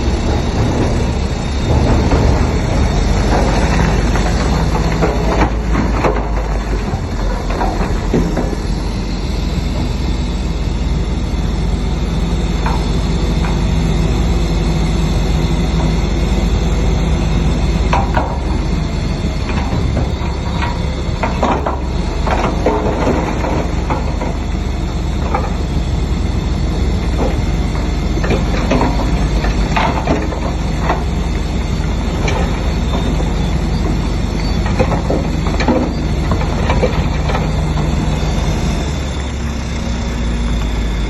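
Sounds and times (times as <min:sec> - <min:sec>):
bulldozer diesel engine droning: 0:00.0 - 0:41.0
steel tracks clanking: 0:00.0 - 0:41.0.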